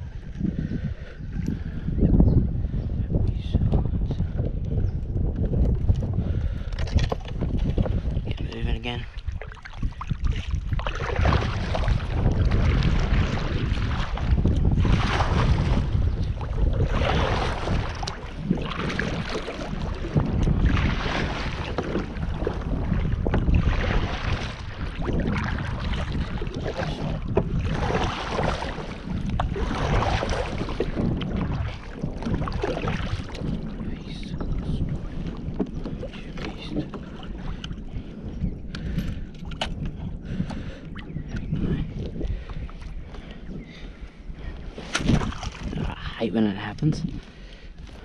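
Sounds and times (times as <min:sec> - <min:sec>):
wind rumble on microphone: 0:00.0 - 0:48.0
water sloshing around kayak: 0:04.2 - 0:48.0.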